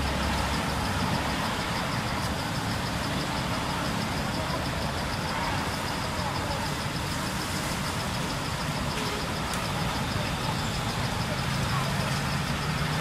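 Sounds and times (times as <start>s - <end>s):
faint high-pitched pulsing: 0.0s - 13.0s.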